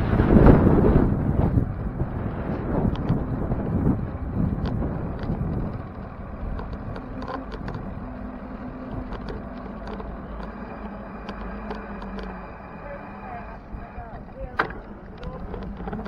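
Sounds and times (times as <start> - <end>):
street traffic noise: 0.0 - 16.0
wind rumbling on microphone: 0.0 - 16.0.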